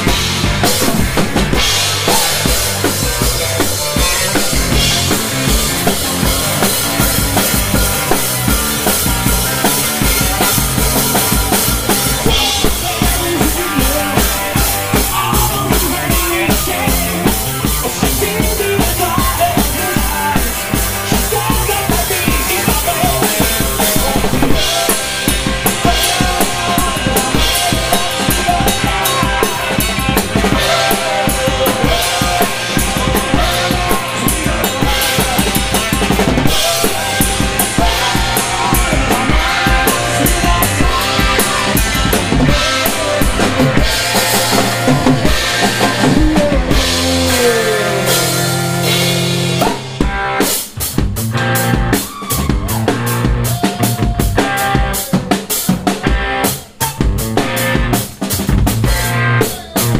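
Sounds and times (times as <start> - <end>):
drum kit beat: 0.0 - 59.9
electric guitar: 0.0 - 59.9.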